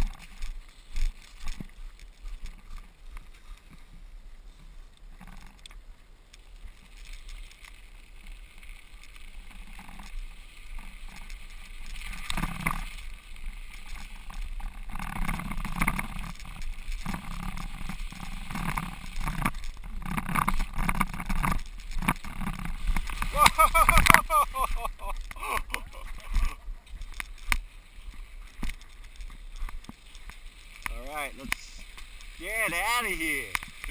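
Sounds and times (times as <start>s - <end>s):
bike tyres rolling over ice and slush: 0.0s - 33.9s.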